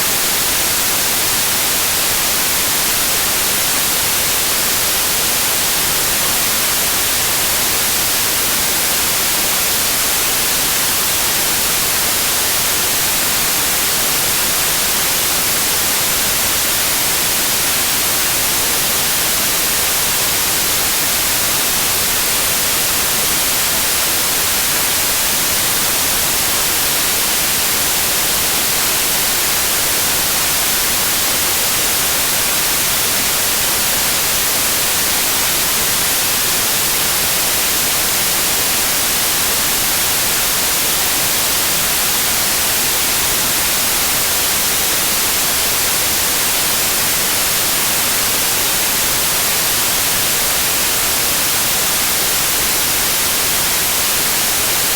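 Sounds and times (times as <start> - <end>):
white noise hiss: 0.0 - 54.9.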